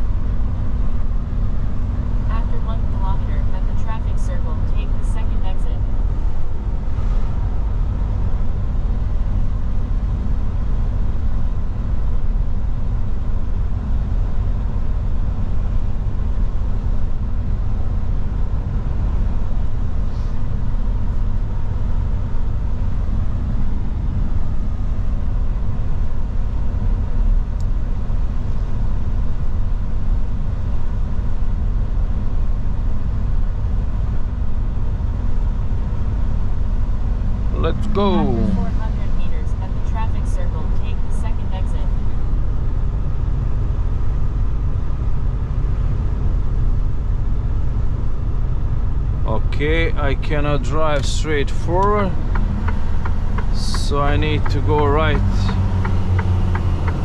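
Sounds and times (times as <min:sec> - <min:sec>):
road noise inside cab: 0:00.0 - 0:57.0
truck engine drone: 0:00.0 - 0:57.0.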